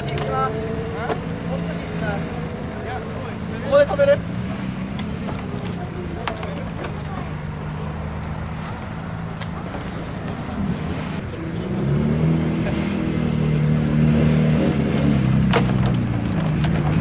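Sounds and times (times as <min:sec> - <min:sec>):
car engine pulling away: 0:00.0 - 0:17.0.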